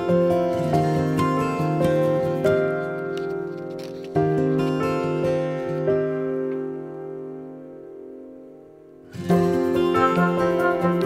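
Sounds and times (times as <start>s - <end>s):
plucked string chords: 0.0s - 11.0s.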